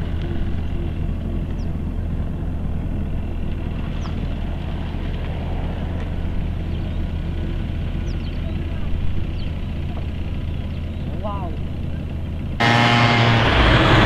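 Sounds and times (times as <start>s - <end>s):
car engine running steadily: 0.0s - 14.0s.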